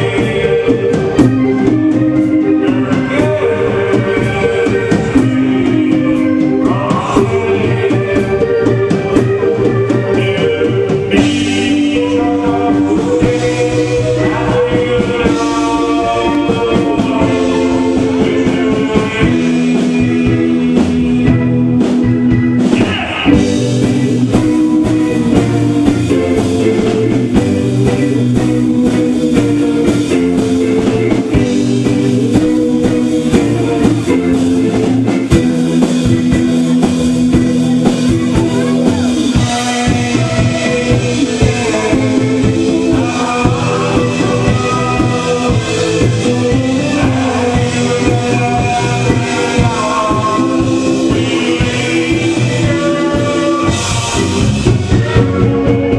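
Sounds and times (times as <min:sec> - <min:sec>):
drum hits: 0:00.0 - 0:55.9
electric guitar rock chords: 0:00.0 - 0:55.9.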